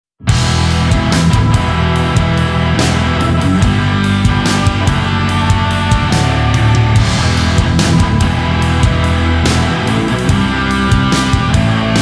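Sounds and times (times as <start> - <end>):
loud rock music: 0.2 - 12.0.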